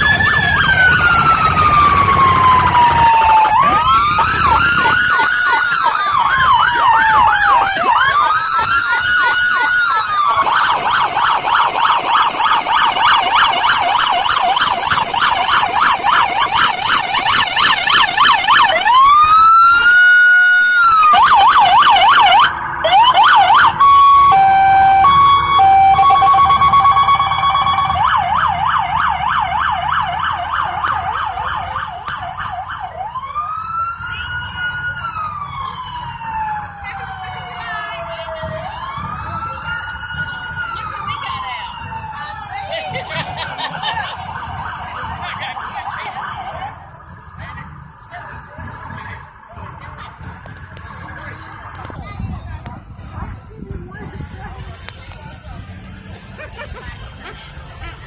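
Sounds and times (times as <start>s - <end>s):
police sirens wailing and yelping: 0.0s - 58.0s.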